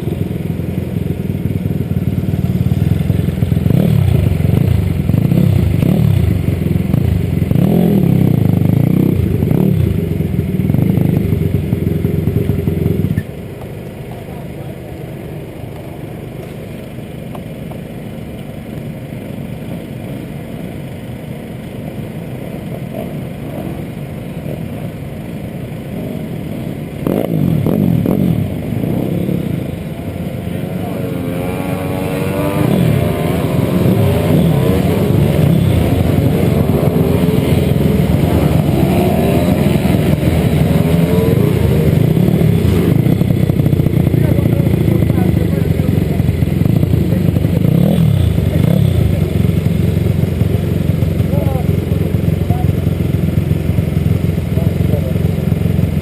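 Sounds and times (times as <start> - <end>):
pit bike engines revving: 0.0 - 13.3, 22.6 - 56.0.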